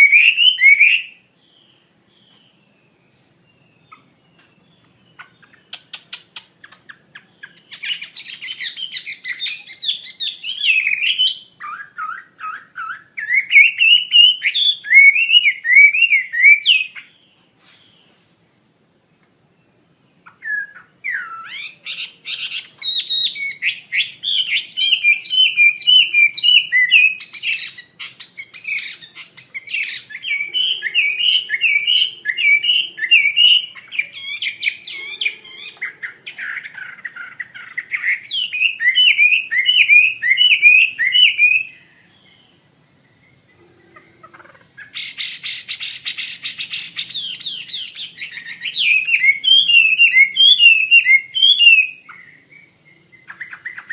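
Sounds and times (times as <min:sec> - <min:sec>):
bird singing whistled notes: 0:00.0 - 0:18.1, 0:19.5 - 0:44.0, 0:44.8 - 0:53.9.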